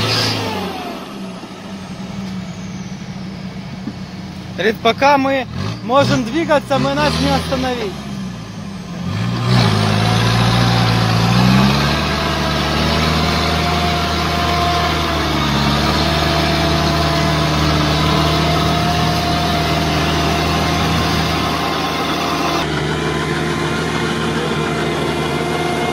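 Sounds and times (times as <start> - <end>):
off-road engine revving in mud: 0.0 - 25.9.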